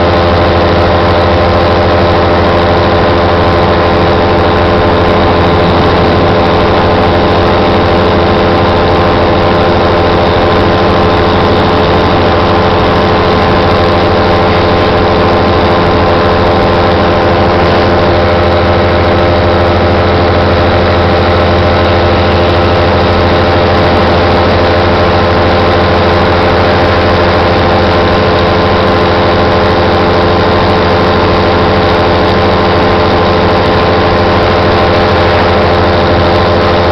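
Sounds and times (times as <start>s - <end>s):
paramotor engine and propeller: 0.0s - 36.9s.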